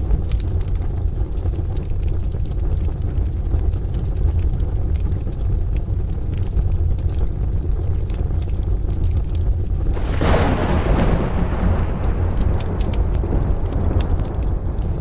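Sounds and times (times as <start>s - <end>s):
continuous low rumble: 0.0s - 15.0s
steady rain: 0.0s - 15.0s
wood fire crackling: 0.0s - 15.0s.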